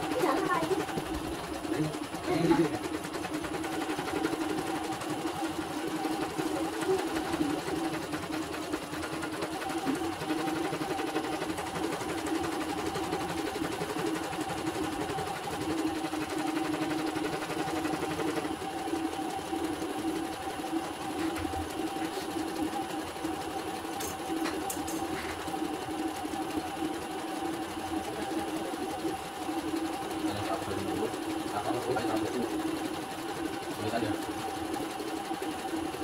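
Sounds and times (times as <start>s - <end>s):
embroidery machine stitching: 0.0s - 36.0s.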